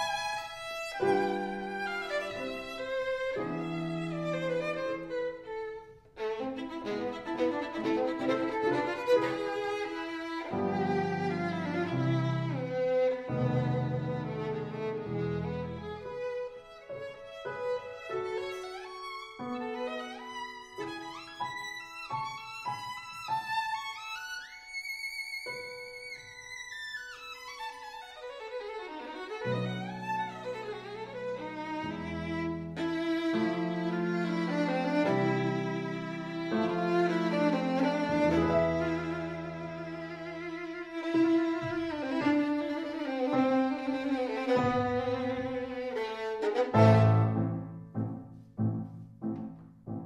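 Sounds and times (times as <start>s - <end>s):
violin playing slow notes: 0.0s - 47.6s.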